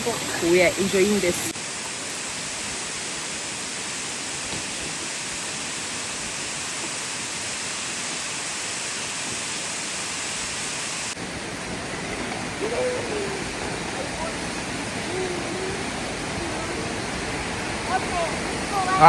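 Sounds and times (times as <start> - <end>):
falling water rushing: 0.0 - 19.0.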